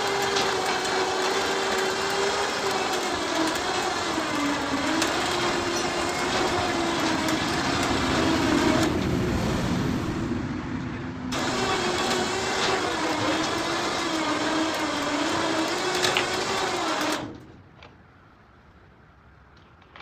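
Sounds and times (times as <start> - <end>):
machinery motor whining: 0.0 - 17.4.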